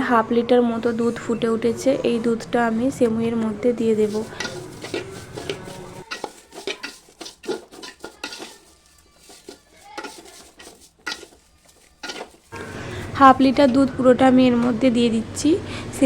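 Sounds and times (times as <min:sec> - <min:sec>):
spoon scraping a cooking pot: 0:00.8 - 0:14.1.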